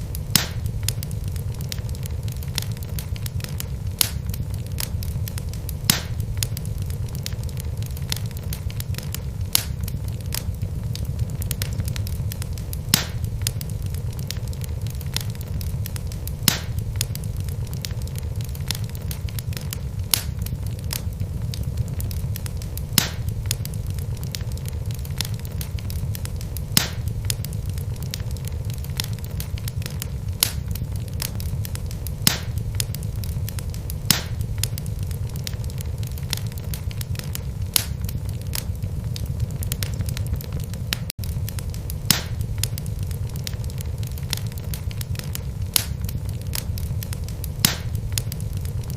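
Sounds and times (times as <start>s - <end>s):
burning log popping: 0.0s - 48.9s
fine crackling of burning wood: 0.0s - 48.9s
fire rumbling: 0.0s - 48.9s.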